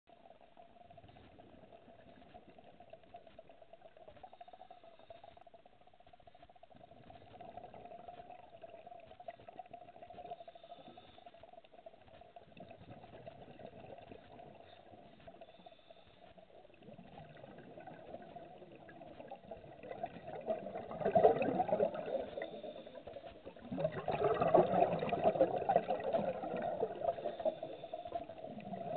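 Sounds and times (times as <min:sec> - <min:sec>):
underwater rushing and bubbling: 0:00.1 - 0:28.9.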